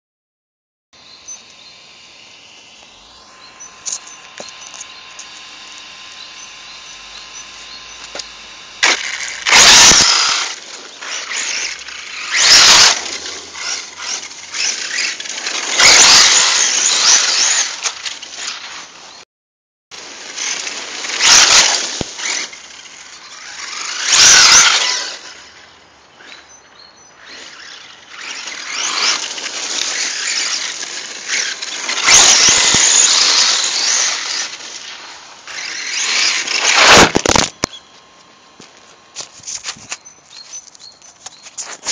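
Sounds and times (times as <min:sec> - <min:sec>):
rc truck motor whine: 0:01.0 - 0:19.2, 0:20.0 - 0:41.9
tyres on gravel: 0:01.0 - 0:19.2, 0:20.0 - 0:41.9.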